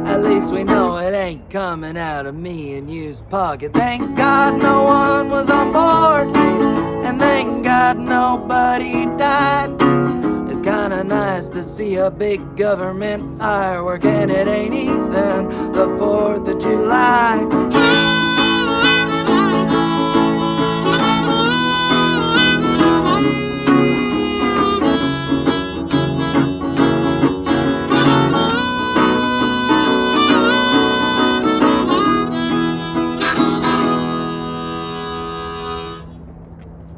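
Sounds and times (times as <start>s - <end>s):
harmonica with bending notes: 0.0s - 0.9s, 4.1s - 11.3s, 14.0s - 36.2s
acoustic guitar: 0.0s - 1.5s, 3.6s - 36.2s.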